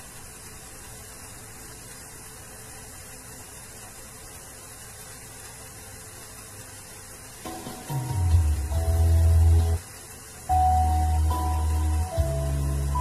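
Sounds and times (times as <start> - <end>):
low mains hum: 0.0 - 13.0
speaker hiss: 0.0 - 13.0.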